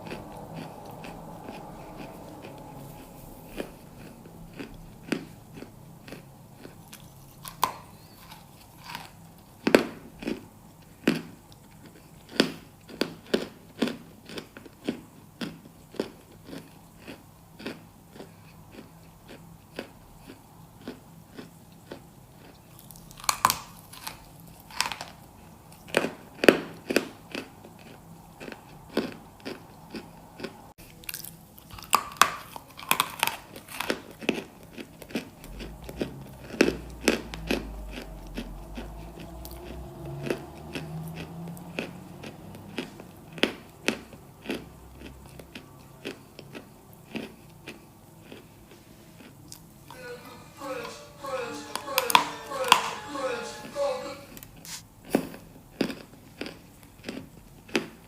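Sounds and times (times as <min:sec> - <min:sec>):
crunchy chewing: 0:00.0 - 0:49.7, 0:54.6 - 0:58.0.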